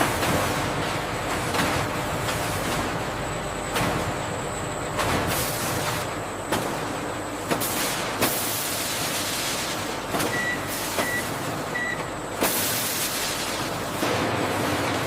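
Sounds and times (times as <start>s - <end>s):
hissing factory machinery: 0.0s - 15.0s.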